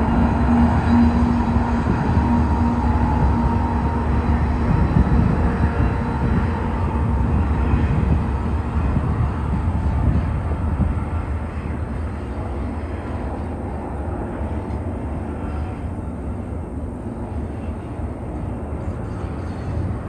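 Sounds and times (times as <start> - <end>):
distant train rumbling past: 0.0 - 20.0.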